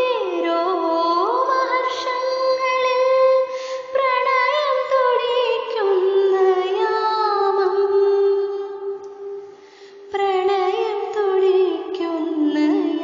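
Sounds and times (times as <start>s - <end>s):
woman singing slow melody: 0.0s - 9.4s, 10.1s - 13.0s.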